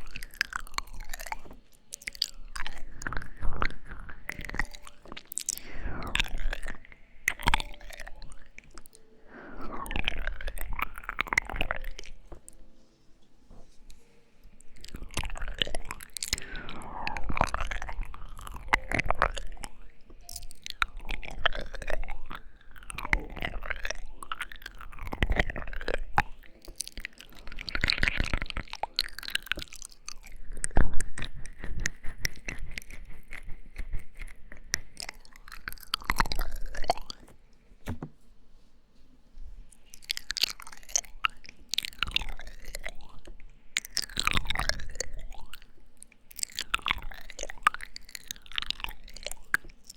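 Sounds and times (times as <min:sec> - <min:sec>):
tongue clicks: 0:00.0 - 0:12.7, 0:14.5 - 0:37.3, 0:39.9 - 0:49.9.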